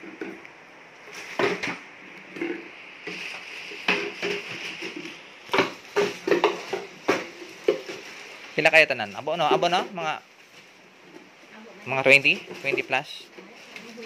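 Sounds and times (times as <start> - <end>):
plastic bag rustling: 1.0 - 14.0.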